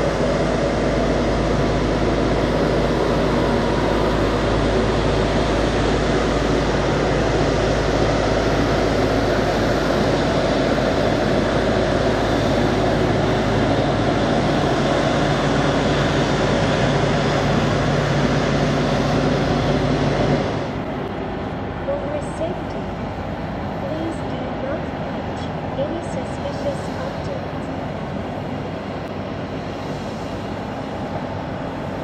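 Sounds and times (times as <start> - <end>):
jet engines idling: 0.0 - 32.0.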